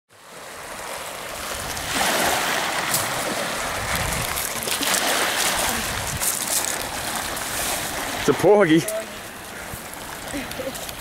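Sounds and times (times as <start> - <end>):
waves breaking on pebbles: 0.2 - 11.0.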